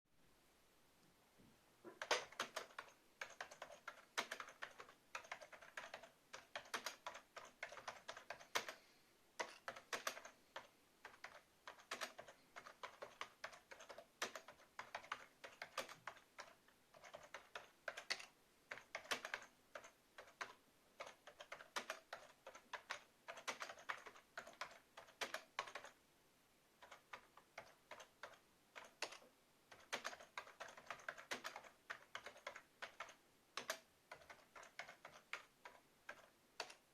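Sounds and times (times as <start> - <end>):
keyboard typing: 1.8 - 26.0, 26.8 - 36.9.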